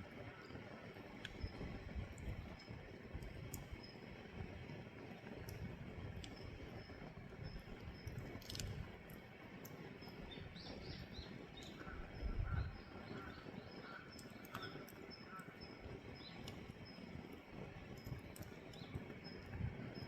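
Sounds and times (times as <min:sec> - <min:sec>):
firewood crackling and popping: 0:00.0 - 0:20.0
low rumble of fire: 0:00.0 - 0:20.0.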